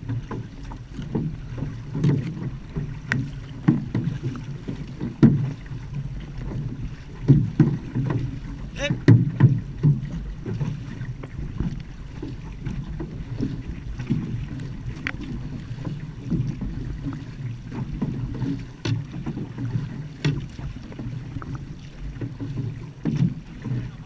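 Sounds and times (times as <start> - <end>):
water splashing along hull: 0.0 - 24.0.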